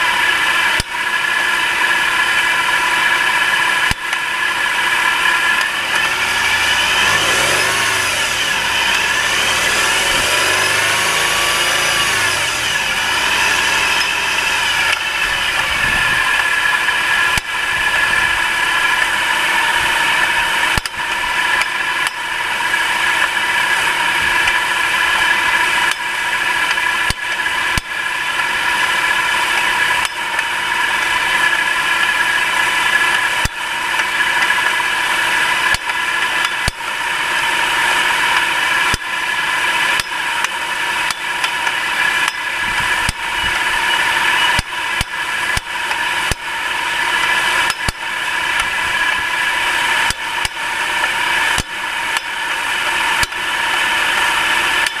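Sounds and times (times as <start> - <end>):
car engine whine: 0.0 - 55.0
engine knocking: 0.0 - 55.0.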